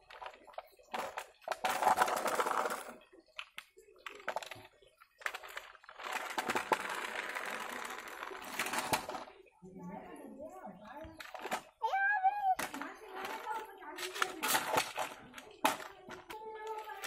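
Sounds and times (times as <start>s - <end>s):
plastic toy vehicles scraping on concrete: 0.0s - 9.5s, 12.6s - 17.0s.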